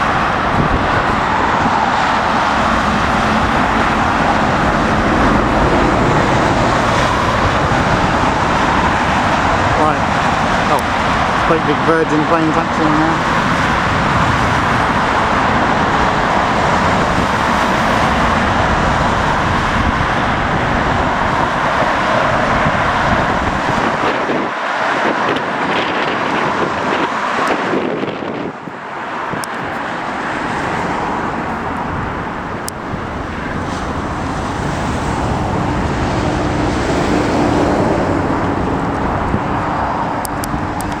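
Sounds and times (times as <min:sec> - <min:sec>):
jet engines: 0:00.0 - 0:41.0
wind buffeting microphone: 0:00.0 - 0:41.0.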